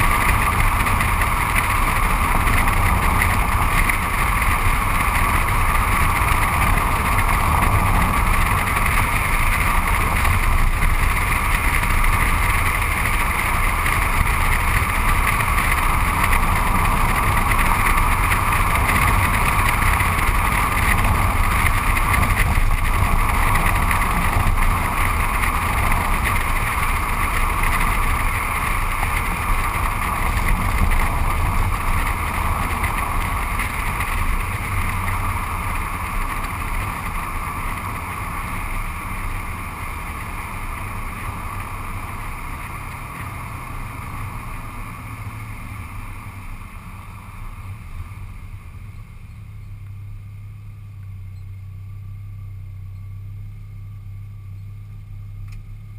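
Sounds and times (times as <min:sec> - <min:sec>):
tyre noise on damp road: 0:00.0 - 0:55.9.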